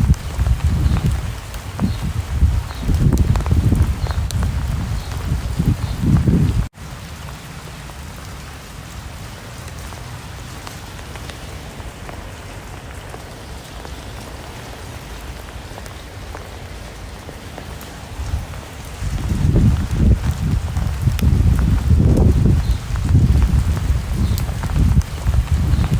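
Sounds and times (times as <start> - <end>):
steady rain patter: 0.0 - 25.9.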